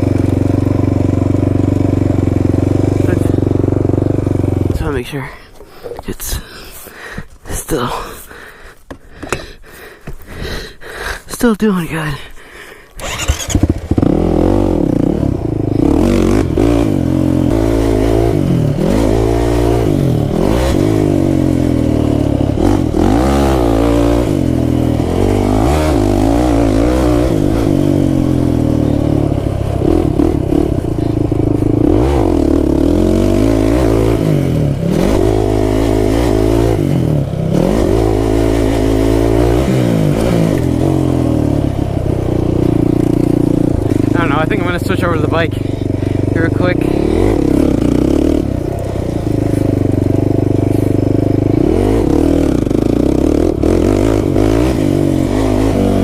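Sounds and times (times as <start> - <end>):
quad bike engine revving: 0.0 - 5.0, 13.0 - 56.0.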